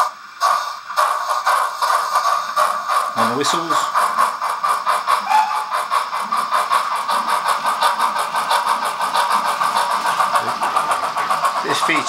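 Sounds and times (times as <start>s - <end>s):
model train chuffing from speaker: 0.0s - 12.0s.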